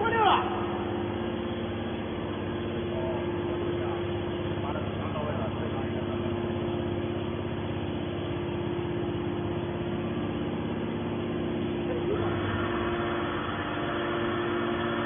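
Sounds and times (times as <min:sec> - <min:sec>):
baler machine hum: 0:00.0 - 0:15.0.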